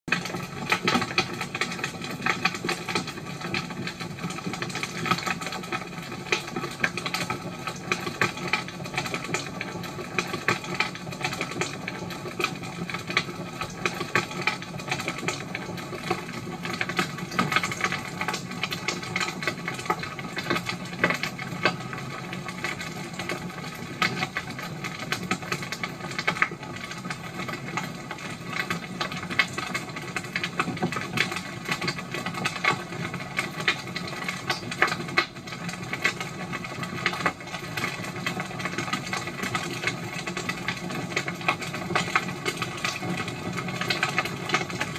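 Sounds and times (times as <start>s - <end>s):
wood fire crackling and popping: 0.1s - 44.9s.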